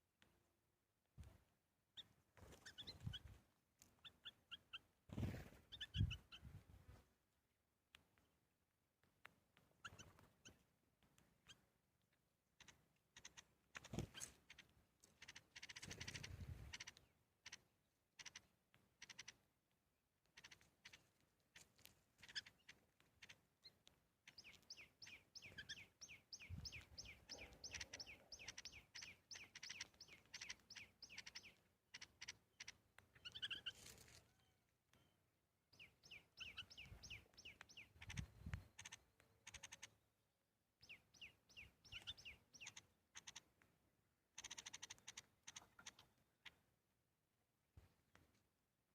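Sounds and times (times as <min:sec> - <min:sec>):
small birds chirping: 0:01.2 - 0:46.9.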